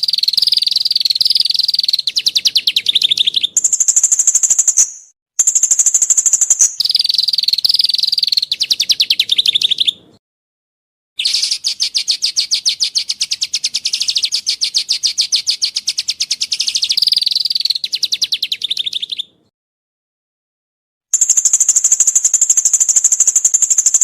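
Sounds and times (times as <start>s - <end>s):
songbird trilling: 0.0s - 10.1s, 11.2s - 19.4s, 21.2s - 24.0s.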